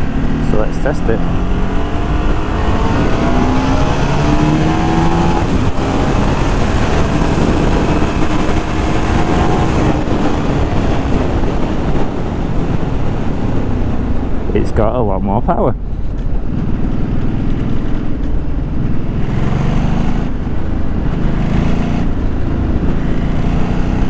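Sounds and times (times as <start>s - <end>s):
motorcycle engine accelerating: 0.0s - 14.6s, 15.5s - 24.0s
wind buffeting microphone: 0.0s - 24.0s.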